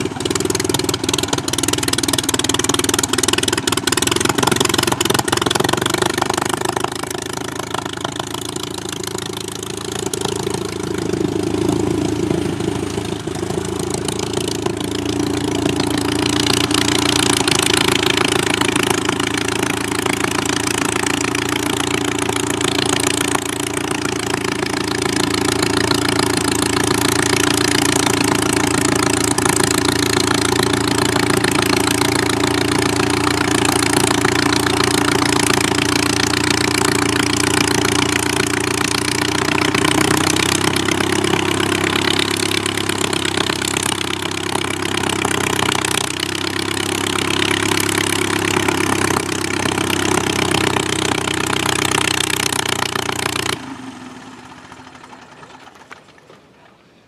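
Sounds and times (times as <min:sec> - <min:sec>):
biplane engine and propeller: 0:00.0 - 0:57.0.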